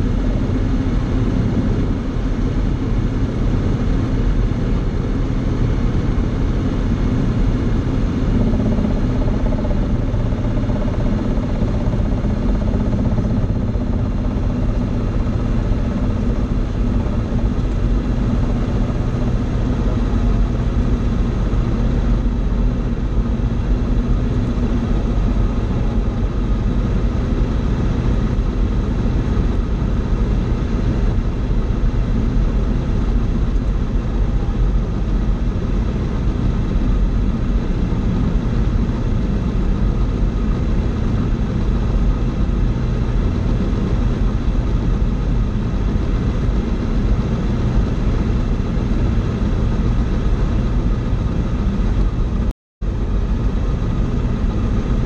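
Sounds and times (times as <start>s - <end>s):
aircraft engine and propeller: 0.0s - 55.0s.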